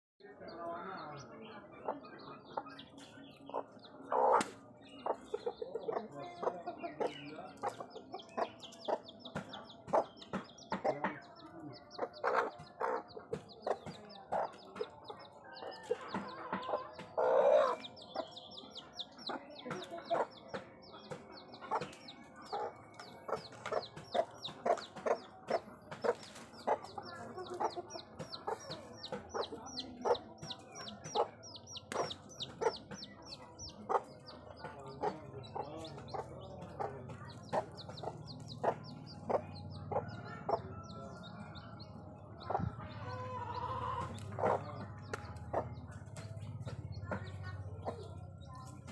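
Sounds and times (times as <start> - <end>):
chick peeping: 0.2 - 48.9
hen clucking: 1.8 - 48.9.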